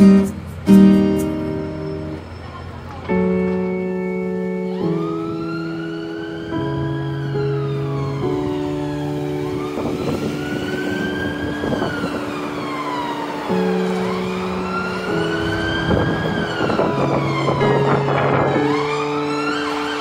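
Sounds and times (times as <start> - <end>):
background music chords: 0.0 - 2.2, 3.2 - 20.0
emergency siren wailing: 1.4 - 20.0.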